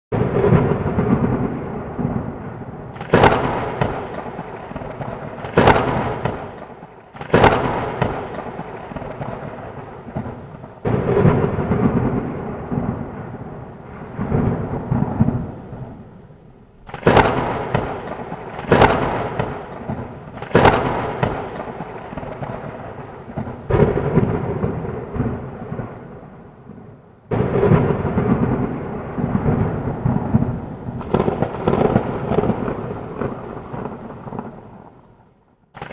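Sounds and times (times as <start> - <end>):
thunderclaps: 0.1 - 35.9.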